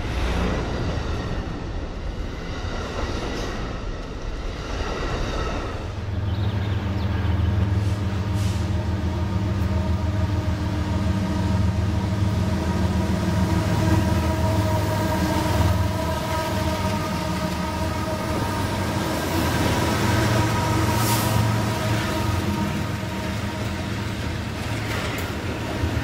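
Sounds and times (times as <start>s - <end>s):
diesel locomotives passing: 0.0s - 26.0s.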